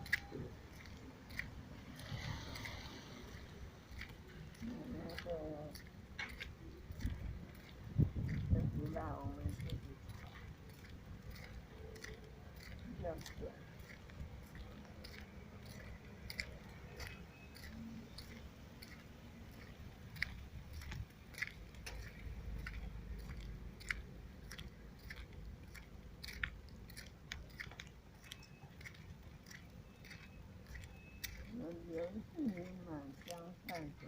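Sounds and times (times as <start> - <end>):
person chewing food: 0.0 - 34.0
sharp crunches and clicks: 0.0 - 34.0.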